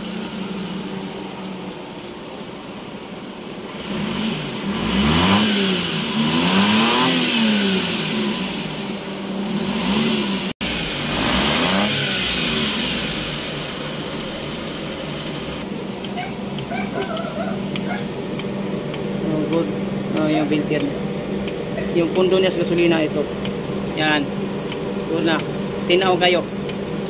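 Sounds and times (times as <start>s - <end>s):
engine revving and idling: 0.0s - 27.0s.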